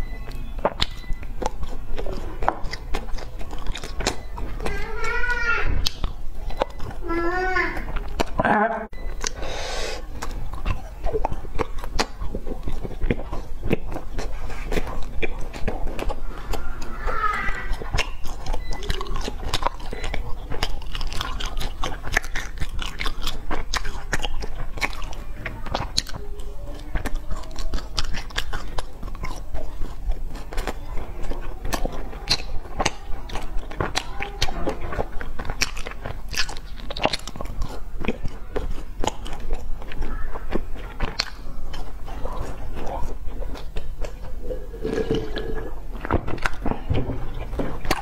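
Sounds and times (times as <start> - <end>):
crunching pastry: 0.0 - 48.0
wet chewing: 0.0 - 48.0.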